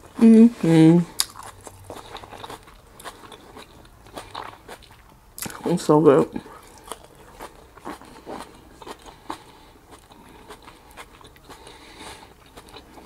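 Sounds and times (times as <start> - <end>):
crunchy chewing: 1.1 - 5.7, 6.3 - 13.0.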